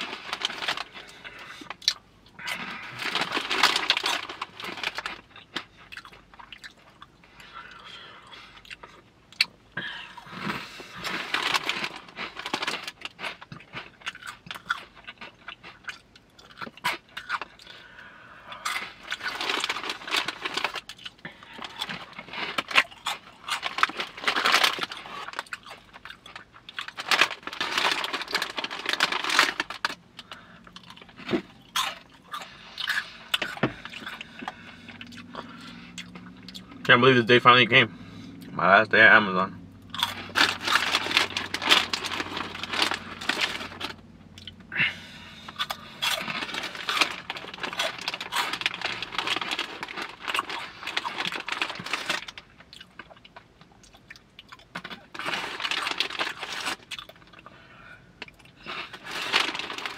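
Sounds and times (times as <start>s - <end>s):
crunchy snack chewing: 0.0s - 7.9s, 8.5s - 36.8s, 39.9s - 57.5s.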